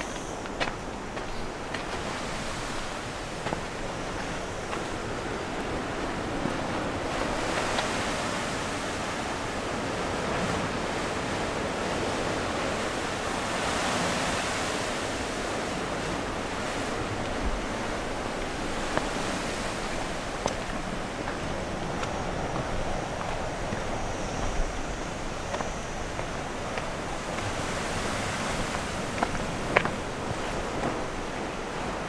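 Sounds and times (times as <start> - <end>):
sea waves washing in: 0.0 - 32.0.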